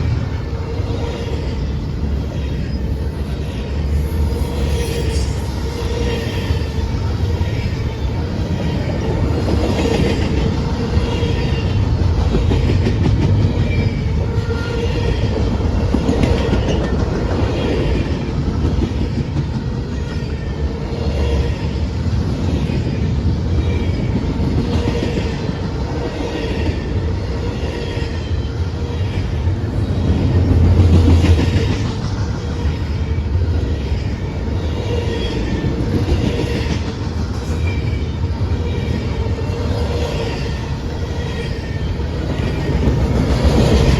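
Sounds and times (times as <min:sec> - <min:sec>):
low train rumble: 0:00.0 - 0:43.9.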